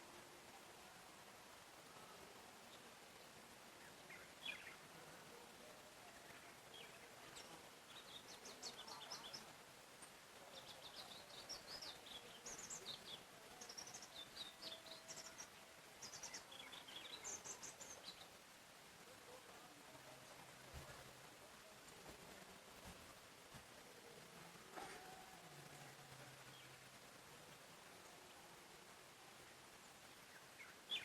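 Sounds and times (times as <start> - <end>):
faint steady hiss: 0.0 - 31.0
songbirds chirping: 0.0 - 31.0.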